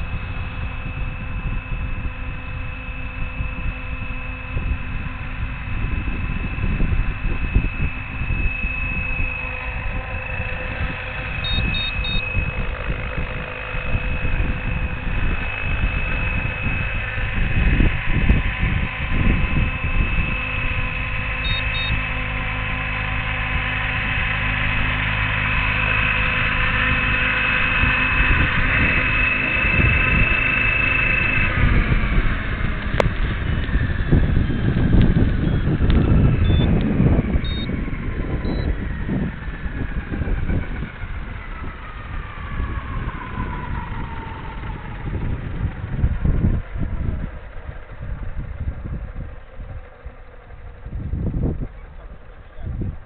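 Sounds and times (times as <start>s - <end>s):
helicopter motor whine: 0.0s - 53.0s
rotor rumble: 0.0s - 53.0s.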